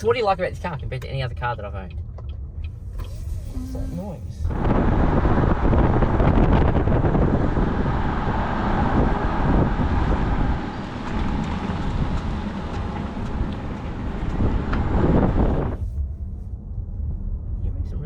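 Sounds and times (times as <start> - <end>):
road and wind noise in car: 0.0 - 18.0.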